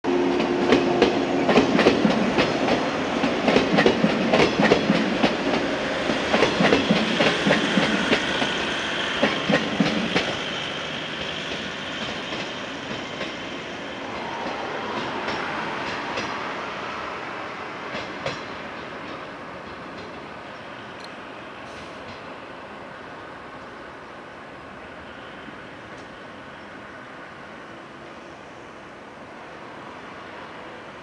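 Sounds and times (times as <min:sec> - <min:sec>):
electric train running past: 0:00.1 - 0:31.0.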